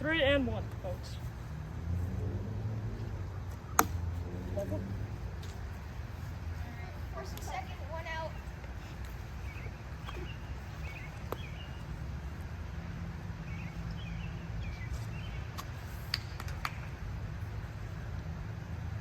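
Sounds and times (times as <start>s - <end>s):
steady low rumble: 0.0s - 15.9s.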